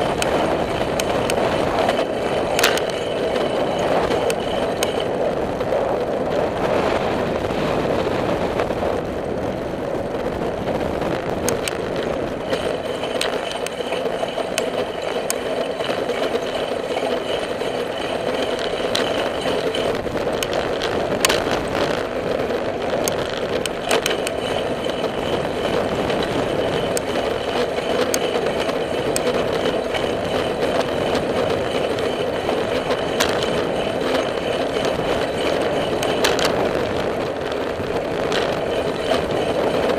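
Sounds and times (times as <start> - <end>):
sharp clicks and rattles: 0.0 - 7.2, 8.6 - 39.9
bicycle rolling on asphalt: 0.0 - 39.9.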